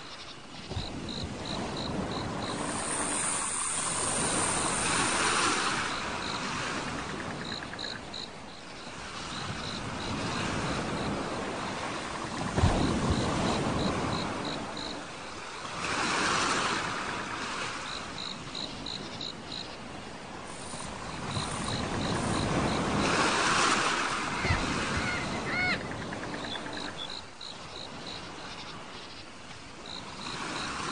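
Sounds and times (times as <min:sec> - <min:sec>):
crickets chirping: 0:00.0 - 0:30.9
sea waves washing onto shore: 0:00.7 - 0:30.9.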